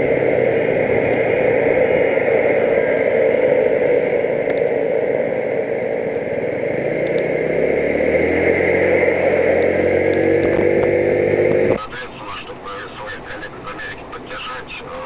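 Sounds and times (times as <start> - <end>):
engine note rising in pitch: 0.0 - 15.0
vehicle engine and road noise: 0.0 - 15.0.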